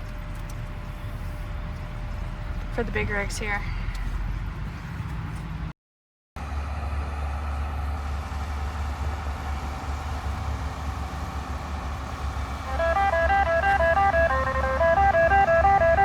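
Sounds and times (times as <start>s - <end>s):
pickup truck engine rumble: 0.0s - 5.7s, 6.4s - 16.0s
road noise: 0.0s - 5.8s, 6.4s - 16.0s.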